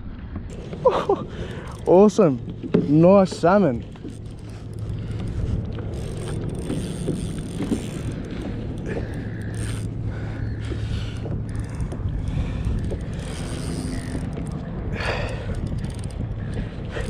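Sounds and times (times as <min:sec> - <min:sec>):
steady low hum: 0:00.0 - 0:17.0
wind buffeting microphone: 0:00.0 - 0:17.0.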